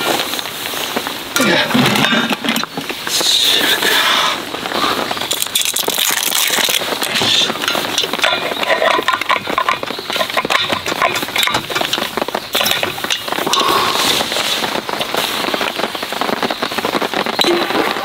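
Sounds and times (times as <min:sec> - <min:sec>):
heavy rain pattering: 0:00.0 - 0:18.0.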